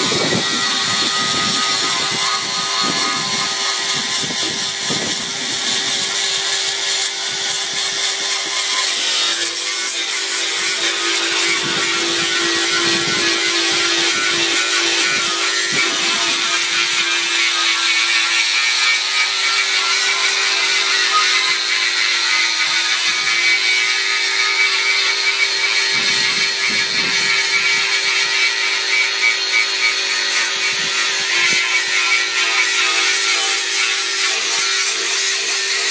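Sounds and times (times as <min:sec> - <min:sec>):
angle grinder motor whine: 0:00.0 - 0:35.9
disc grinding paint off metal: 0:00.0 - 0:35.9.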